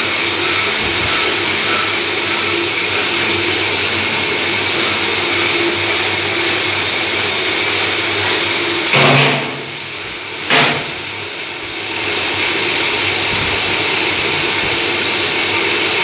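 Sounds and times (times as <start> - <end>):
metal lathe running: 0.0 - 16.0.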